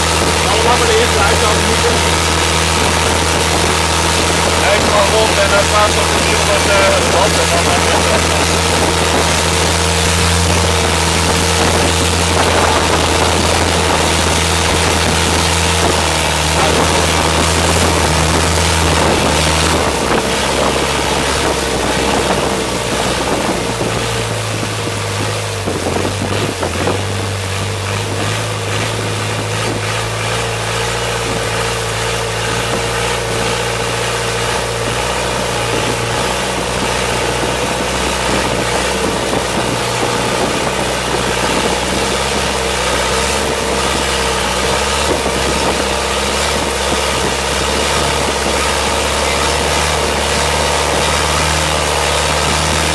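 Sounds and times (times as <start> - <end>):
motorboat engine running: 0.0 - 52.9
water rushing along hull: 0.0 - 52.9.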